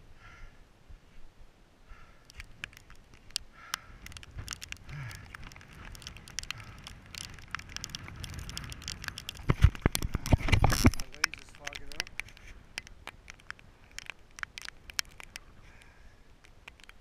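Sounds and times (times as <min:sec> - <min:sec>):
low rumble of wind: 0:00.0 - 0:17.0
rain pattering on recorder: 0:02.2 - 0:17.0.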